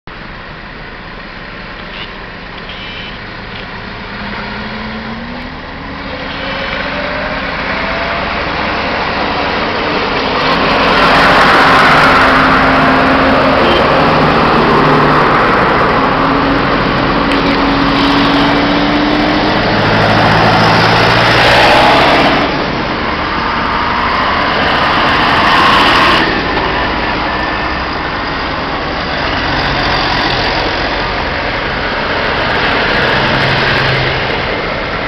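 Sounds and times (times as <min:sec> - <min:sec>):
diesel tractors driving past: 0:00.2 - 0:35.0.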